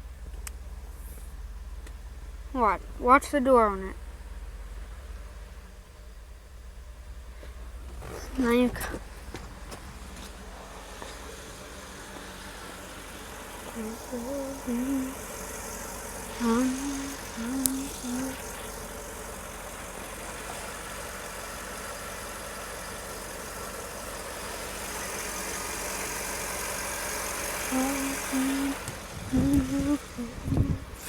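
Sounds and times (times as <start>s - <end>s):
truck engine idling roughly: 0.0s - 31.0s.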